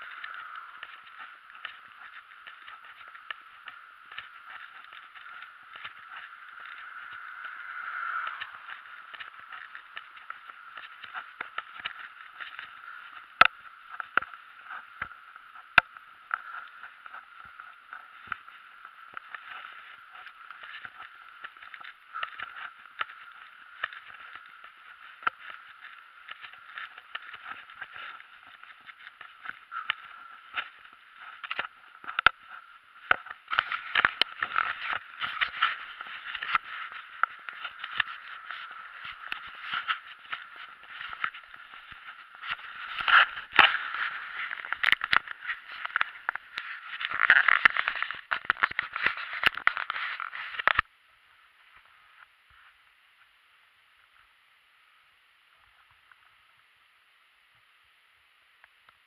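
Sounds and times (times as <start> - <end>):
bike clicking and rattling: 0.0 - 50.9.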